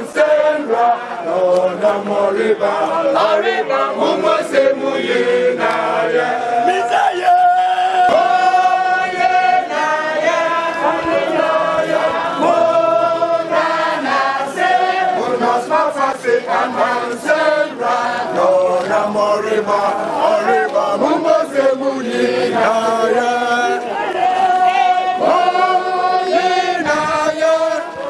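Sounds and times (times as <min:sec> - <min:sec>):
group singing and chanting: 0:00.0 - 0:28.0.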